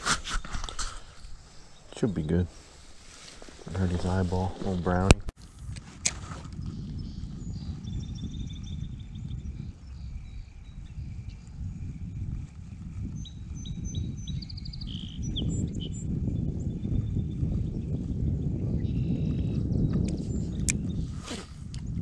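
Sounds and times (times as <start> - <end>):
wind buffeting microphone: 0.0 - 22.0
songbirds chirping: 0.2 - 5.3, 6.5 - 22.0.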